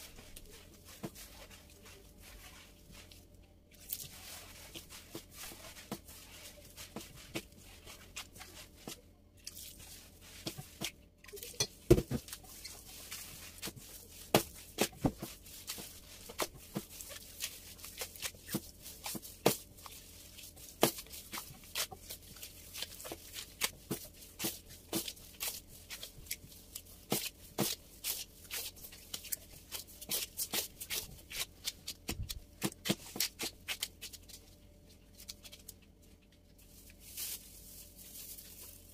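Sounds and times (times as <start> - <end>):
hands kneading dough: 0.0 - 38.9.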